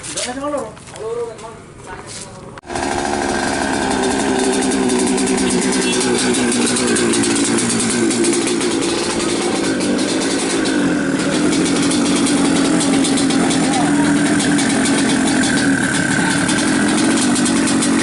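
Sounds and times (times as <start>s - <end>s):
motorcycle engine running: 2.6s - 18.0s.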